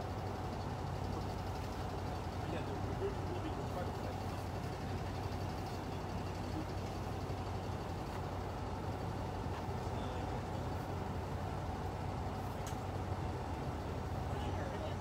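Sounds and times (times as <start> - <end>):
constant low hum: 0.0 - 15.0
highway traffic rumble: 0.0 - 15.0.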